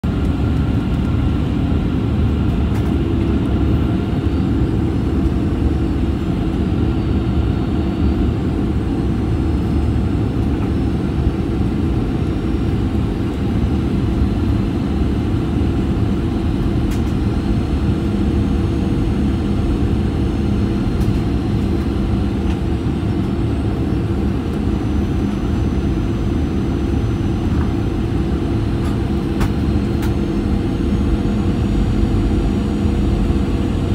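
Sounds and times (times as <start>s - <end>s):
aircraft cabin rumble: 0.0s - 33.9s
lower hum: 0.0s - 33.9s
steady hum: 0.0s - 33.9s.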